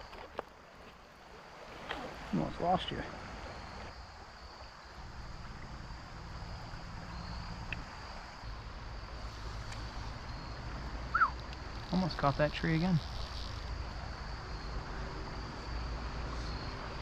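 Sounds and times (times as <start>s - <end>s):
creek water rushing: 0.0s - 17.0s
insects droning: 0.0s - 17.0s.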